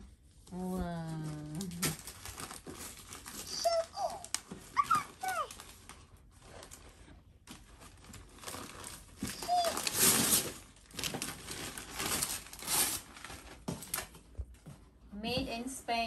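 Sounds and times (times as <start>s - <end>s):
tissue paper and paper bag rustling: 0.5s - 14.2s.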